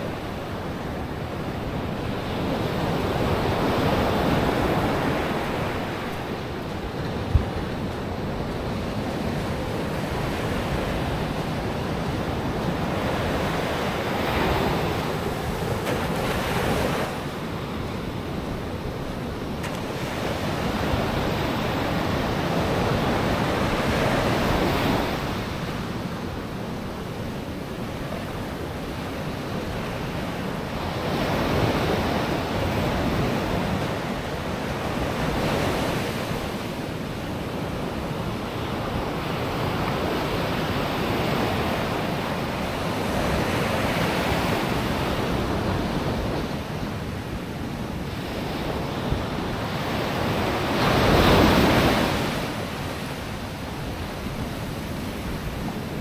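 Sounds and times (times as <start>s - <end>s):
ocean waves breaking on shore: 0.0s - 56.0s
wind noise on microphone: 0.0s - 56.0s.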